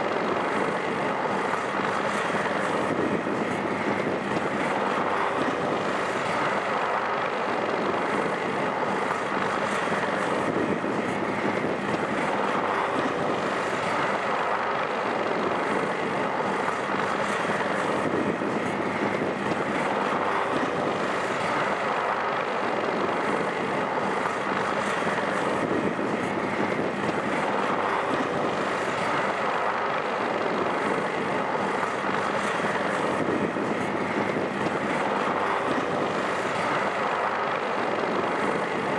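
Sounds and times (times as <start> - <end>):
helicopter turbine and rotor noise: 0.0 - 38.9.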